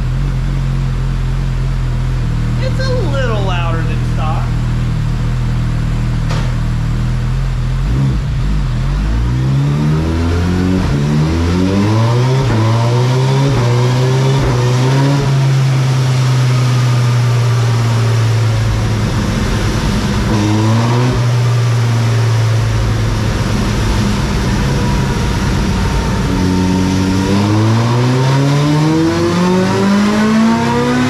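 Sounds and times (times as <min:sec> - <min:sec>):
motorcycle engine revving on dyno: 0:04.5 - 0:31.0.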